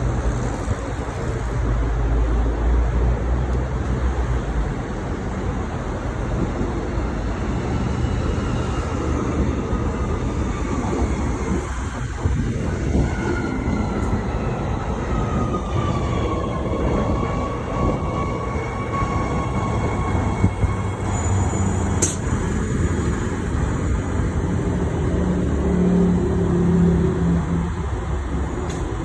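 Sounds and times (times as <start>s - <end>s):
electric train rumbling on rails: 0.0s - 29.0s.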